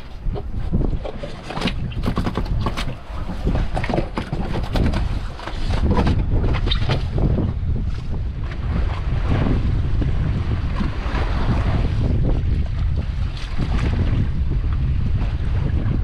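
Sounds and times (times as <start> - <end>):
water splashing against boat: 0.0 - 16.0
wind buffeting microphone: 0.0 - 16.0.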